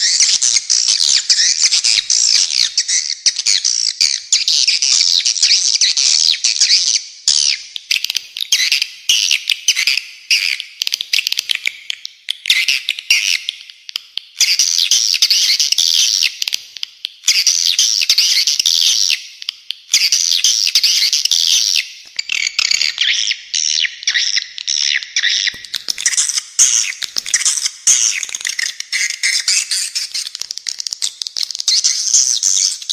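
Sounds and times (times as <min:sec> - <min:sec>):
harsh high-pitched bird chirping: 0:00.0 - 0:16.5, 0:17.2 - 0:32.9.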